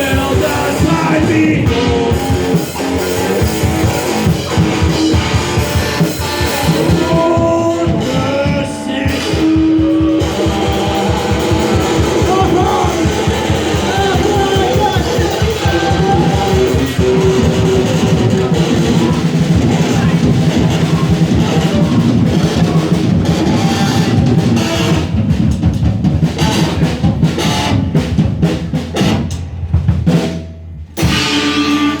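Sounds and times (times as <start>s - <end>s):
rock music with drums and guitar: 0.0s - 32.0s.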